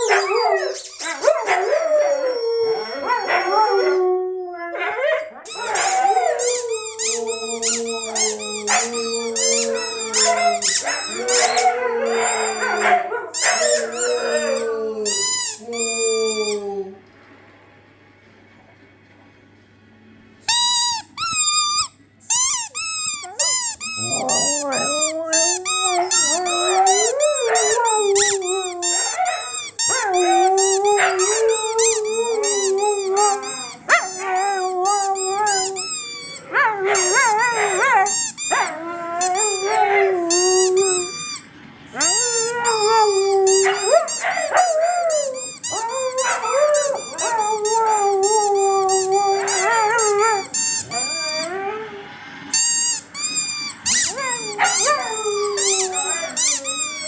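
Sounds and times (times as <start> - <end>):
squeaky toy squeaking: 0.0 - 1.6, 5.5 - 12.6, 13.4 - 16.4, 20.4 - 51.6, 52.5 - 57.0
dogs howling: 0.0 - 17.0, 23.2 - 52.2, 53.2 - 57.0.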